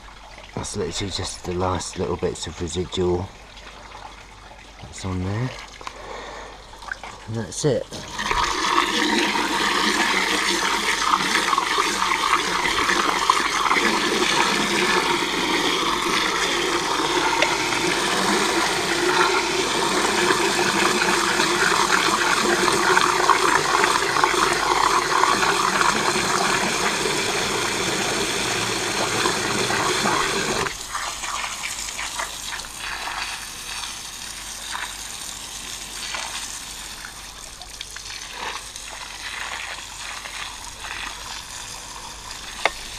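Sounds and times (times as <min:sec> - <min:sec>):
hose water splashing into metal bucket: 0:06.8 - 0:42.9
water washing on concrete: 0:07.9 - 0:42.9.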